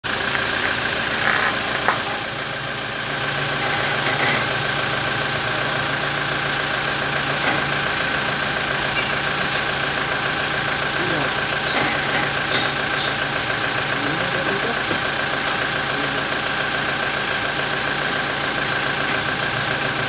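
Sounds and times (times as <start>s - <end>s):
brake groaning: 0.0s - 20.0s
car engine idling: 0.0s - 20.0s.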